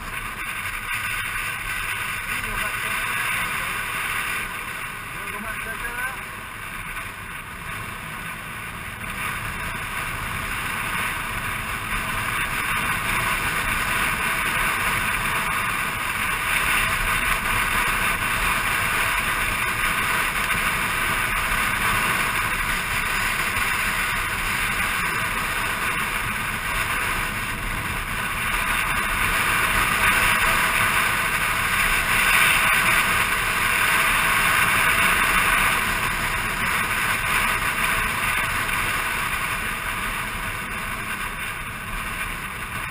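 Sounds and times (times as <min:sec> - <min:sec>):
scooter engine running: 0:00.0 - 0:42.9.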